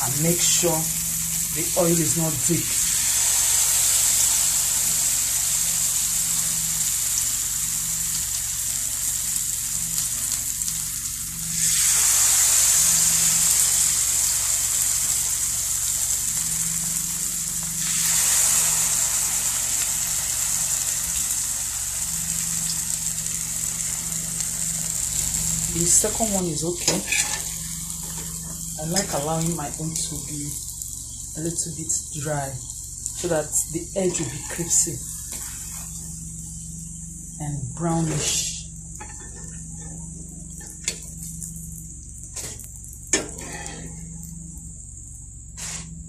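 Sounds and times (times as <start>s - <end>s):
batter sizzling in oil: 0.0s - 46.0s.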